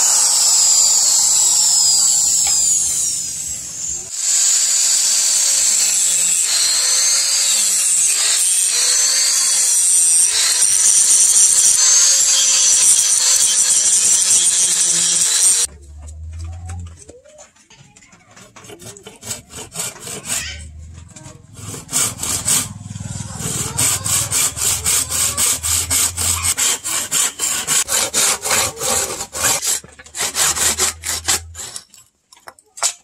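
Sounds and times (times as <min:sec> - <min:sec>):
hand saw cutting wood: 0:00.0 - 0:15.7, 0:18.3 - 0:32.1.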